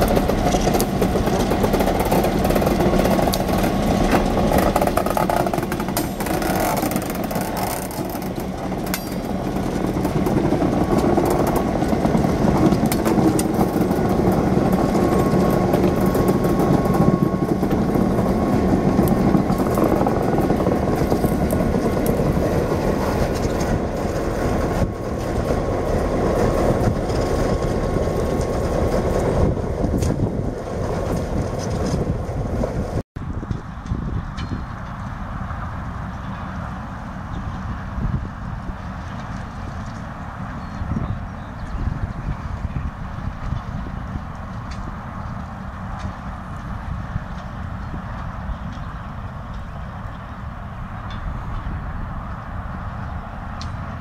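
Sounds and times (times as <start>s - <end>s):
diesel locomotive running: 0.0s - 54.0s.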